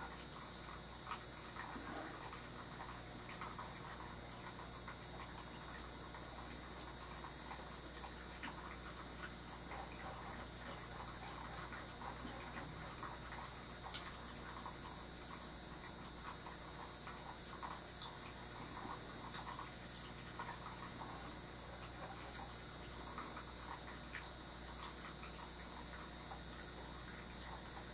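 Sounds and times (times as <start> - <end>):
small irregular ticks and clicks: 0.0 - 27.9.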